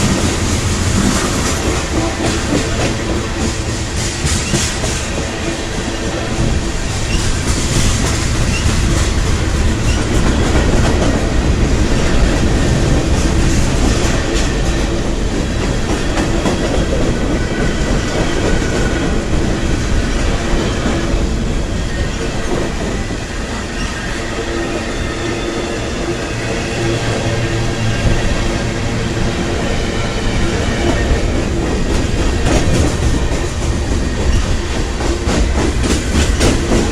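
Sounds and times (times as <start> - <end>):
train wheels clattering on rails: 0.0 - 36.9.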